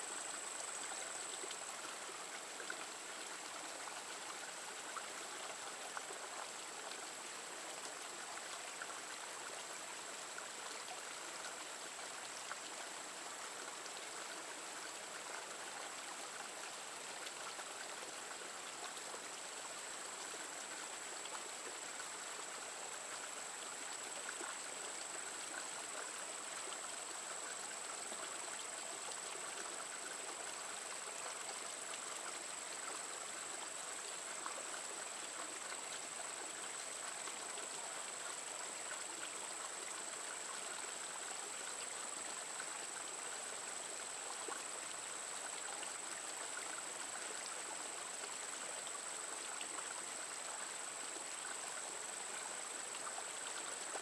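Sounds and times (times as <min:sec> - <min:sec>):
creek water running over rocks: 0:00.0 - 0:54.0.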